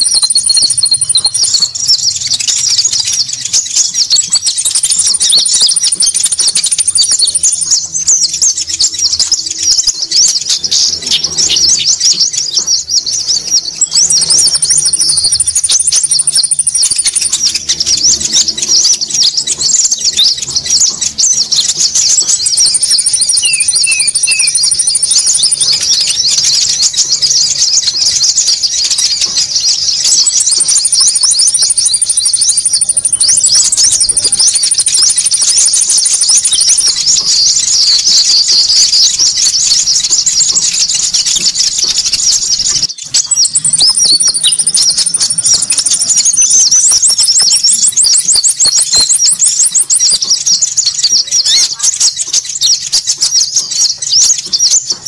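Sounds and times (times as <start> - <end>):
high fast bird trill: 0.0 - 55.0
songbirds chirping and twittering: 0.0 - 55.0.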